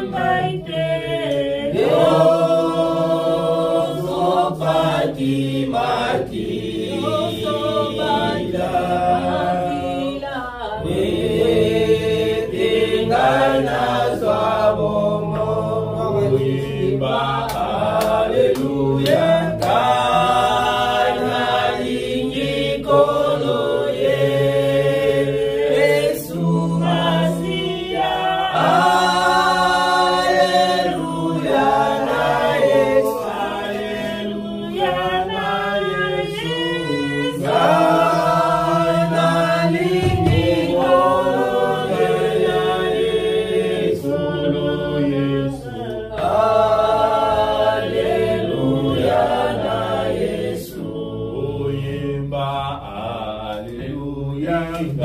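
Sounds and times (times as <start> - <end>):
congregation singing a worship song: 0.0 - 55.0.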